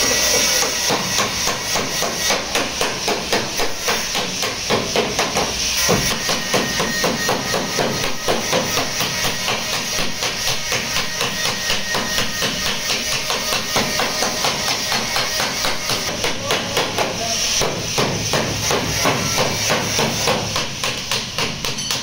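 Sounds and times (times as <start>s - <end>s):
hammer striking sheet steel: 0.0s - 22.0s.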